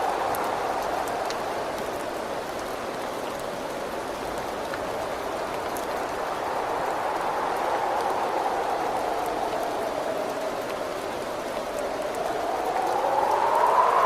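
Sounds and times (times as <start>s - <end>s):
rain falling: 0.0s - 14.0s
raindrop ticks: 0.0s - 14.0s.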